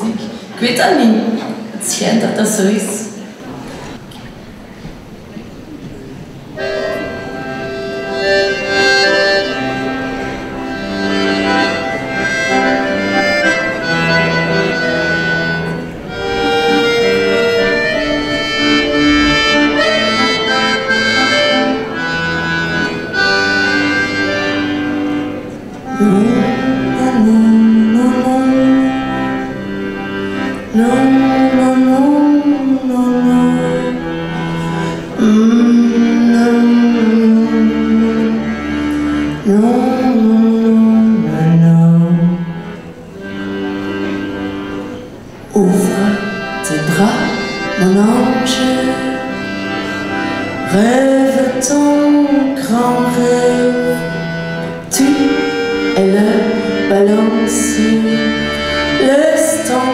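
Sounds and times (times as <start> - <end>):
accordion playing chords and melody: 6.2 - 59.9
low sliding melodic line: 6.5 - 59.9.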